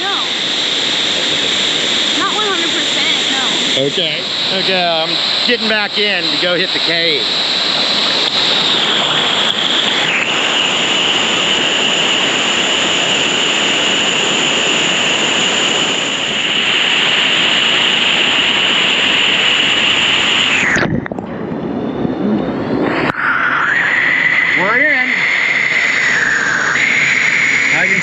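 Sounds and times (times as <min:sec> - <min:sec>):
rushing water roar: 0:00.0 - 0:21.2, 0:22.8 - 0:28.0.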